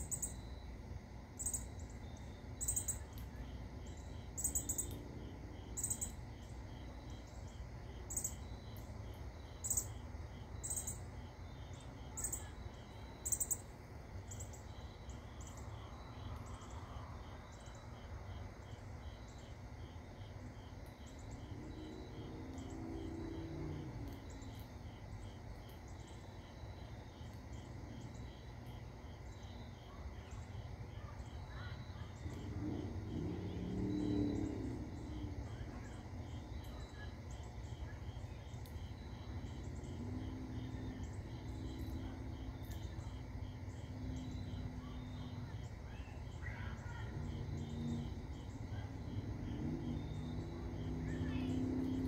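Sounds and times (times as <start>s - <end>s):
constant low rumble: 0.0s - 52.0s
crickets chirping: 0.0s - 52.0s
faint low hum: 0.0s - 52.0s.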